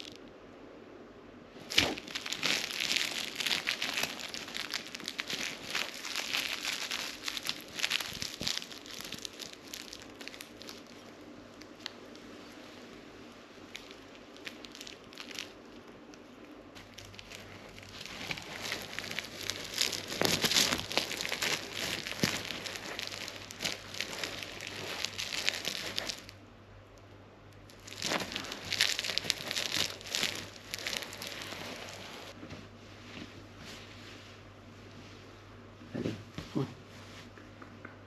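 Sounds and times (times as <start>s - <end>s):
bedding and toy rustling: 1.6s - 15.9s, 16.7s - 26.4s, 27.7s - 37.4s.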